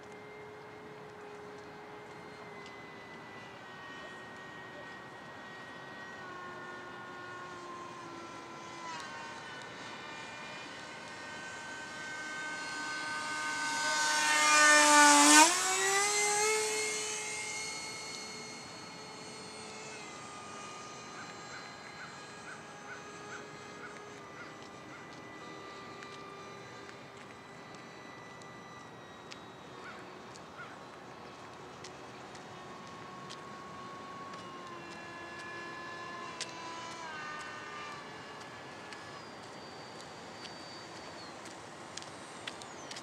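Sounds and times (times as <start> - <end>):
model jet fan whining: 0.0 - 43.0.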